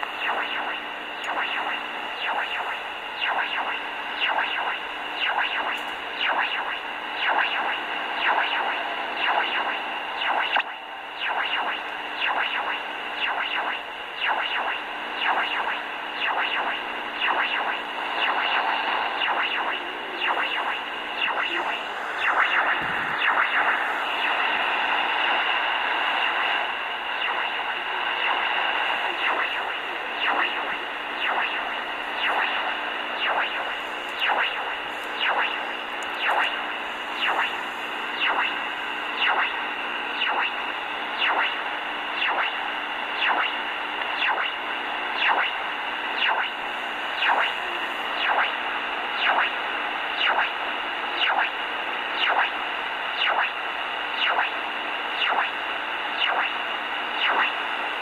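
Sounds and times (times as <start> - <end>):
faint low hum: 0.0 - 58.0
repeating radio pulse: 0.0 - 58.0
static hiss: 0.0 - 58.0.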